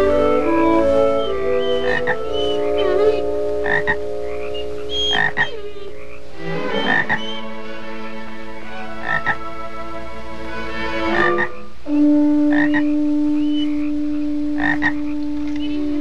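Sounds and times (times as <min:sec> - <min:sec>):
orchestral music held notes: 0:00.0 - 0:16.0
frog croaking: 0:00.5 - 0:07.8, 0:08.8 - 0:09.5, 0:11.0 - 0:16.0.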